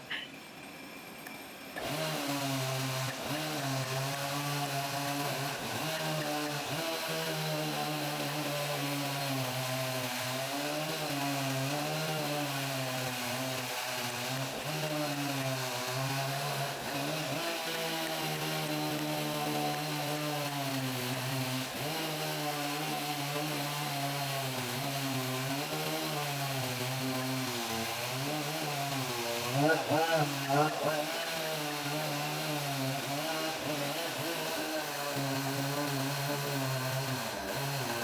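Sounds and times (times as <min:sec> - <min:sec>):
chainsaw running: 0:00.0 - 0:38.0.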